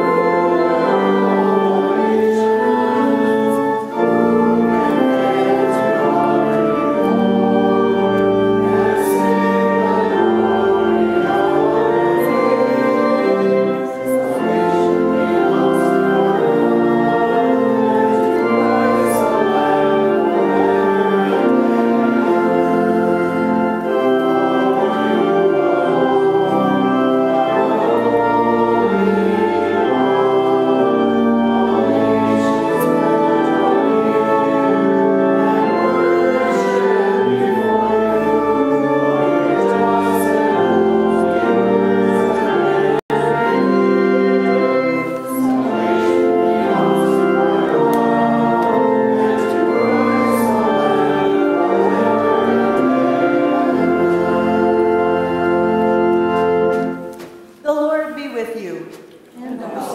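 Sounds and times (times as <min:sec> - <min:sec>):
church organ chords: 0:00.0 - 0:57.6
people singing a hymn: 0:00.0 - 0:57.6.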